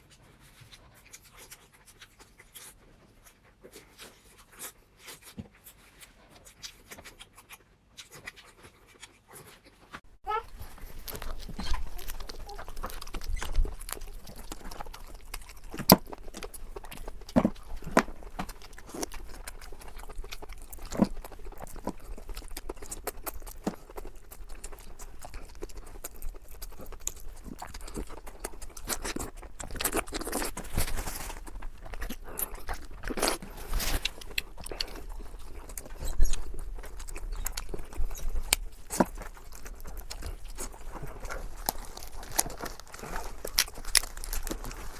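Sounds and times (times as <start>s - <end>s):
chewing with wet clicks and crunches: 0.0s - 44.9s.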